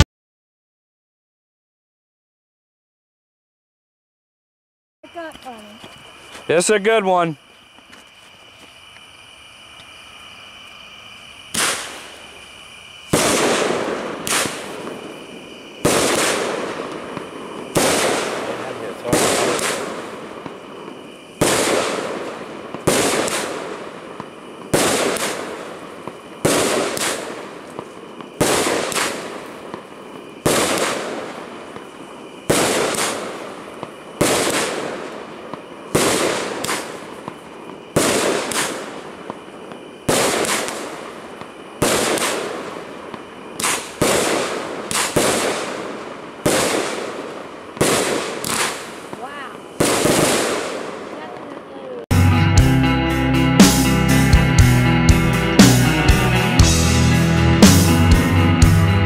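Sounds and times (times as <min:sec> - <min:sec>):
fireworks bangs: 0:05.0 - 0:52.2, 0:55.5 - 0:58.9.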